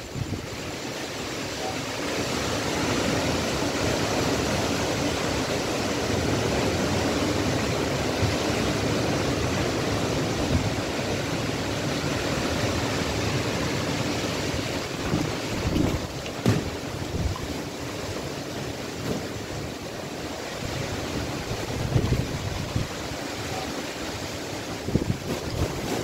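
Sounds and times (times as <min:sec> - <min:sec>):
strong wind through trees: 0:00.0 - 0:26.0.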